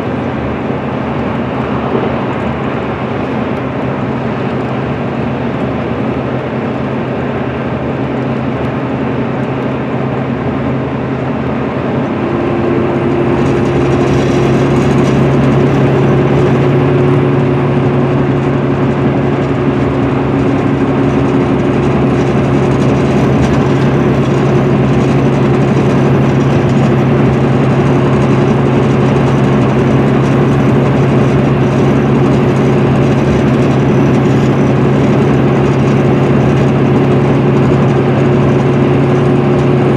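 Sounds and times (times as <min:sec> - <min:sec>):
bus engine drone: 0:00.0 - 0:39.9
tyre and road noise: 0:00.0 - 0:39.9.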